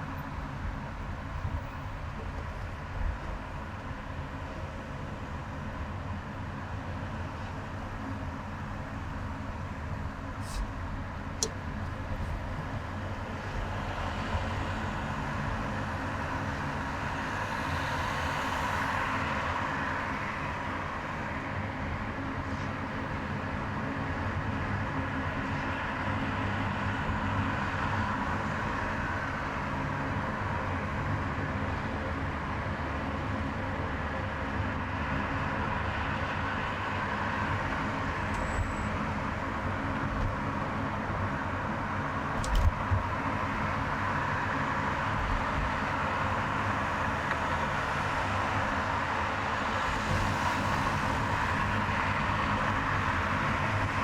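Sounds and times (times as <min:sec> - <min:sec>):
passing traffic: 0:00.0 - 0:54.0
tyre and road noise: 0:00.0 - 0:54.0.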